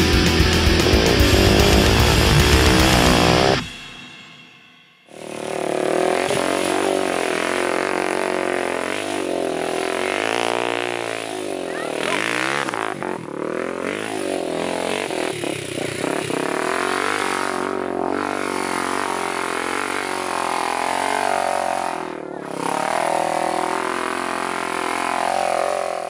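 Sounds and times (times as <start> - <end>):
atv engine revving high: 0.0 - 3.7, 5.1 - 26.0.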